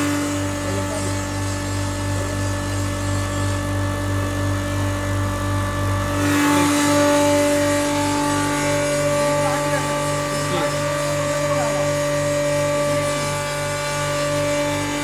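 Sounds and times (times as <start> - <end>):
grinder motor hum and grinding: 0.0 - 15.0.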